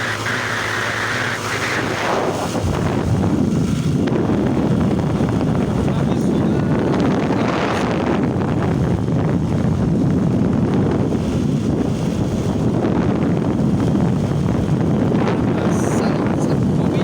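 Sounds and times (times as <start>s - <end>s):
vehicle engine drone: 0.0s - 17.0s
wind buffeting microphone: 0.0s - 17.0s.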